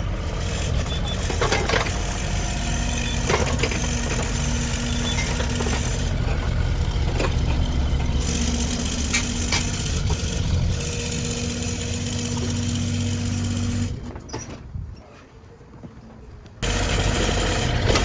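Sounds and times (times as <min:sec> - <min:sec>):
diesel engine idling: 0:00.0 - 0:13.9, 0:16.6 - 0:18.0.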